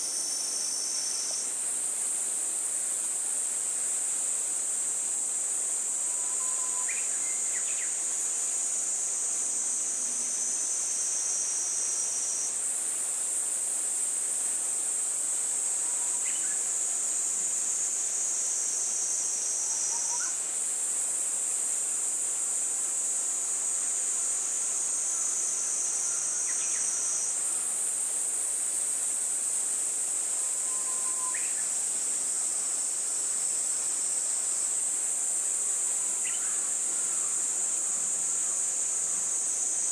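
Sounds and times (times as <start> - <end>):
insects trilling chorus: 0.0 - 13.0, 14.8 - 39.9.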